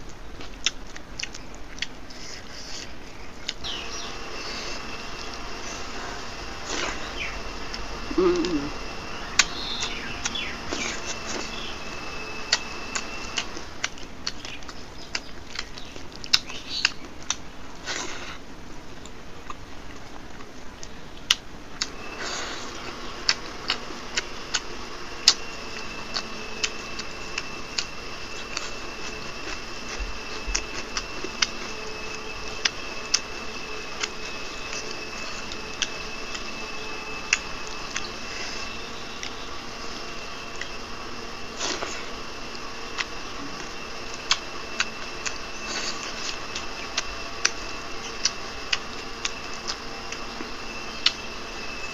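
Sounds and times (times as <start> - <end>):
person chewing food: 0.0 - 51.2.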